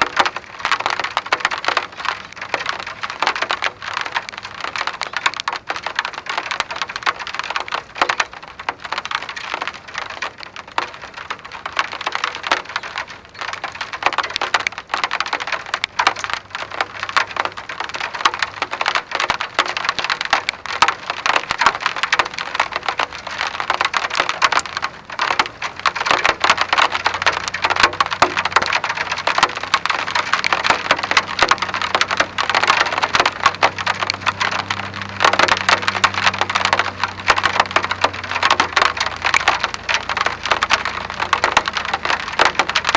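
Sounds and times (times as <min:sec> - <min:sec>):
rain ticking on hard surface: 0:00.0 - 0:42.9.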